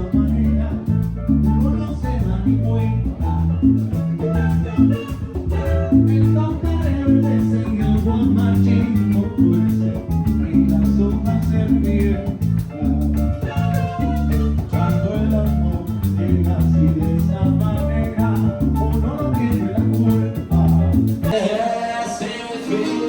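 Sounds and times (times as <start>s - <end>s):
live band playing latin dance music: 0.0s - 23.0s.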